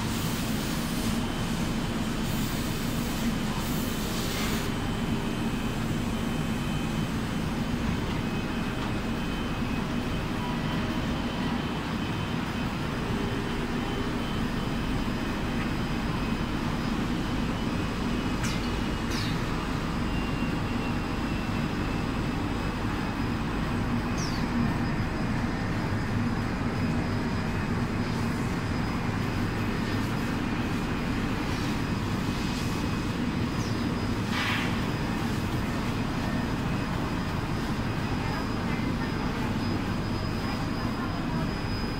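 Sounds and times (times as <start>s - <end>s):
machinery drone: 0.0s - 41.9s.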